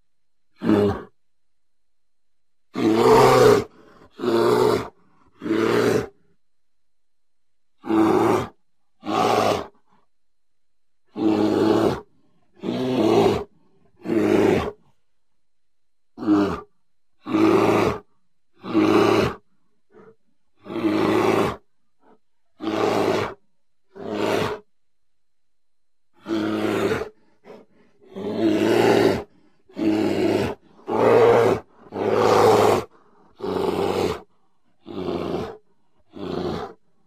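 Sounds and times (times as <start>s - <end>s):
bear growling: 0.5s - 1.2s, 2.7s - 6.3s, 7.8s - 10.1s, 11.1s - 15.0s, 16.2s - 24.7s, 26.1s - 37.0s.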